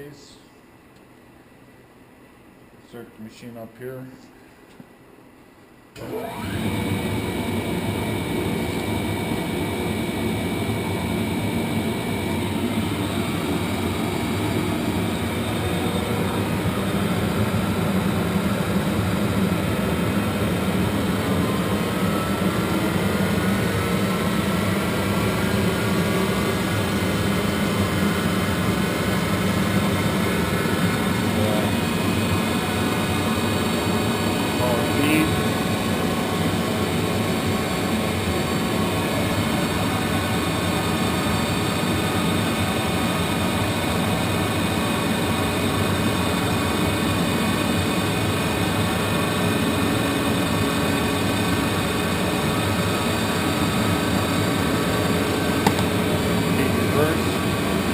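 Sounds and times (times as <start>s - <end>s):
lathe running with hum and whine: 5.9s - 57.9s.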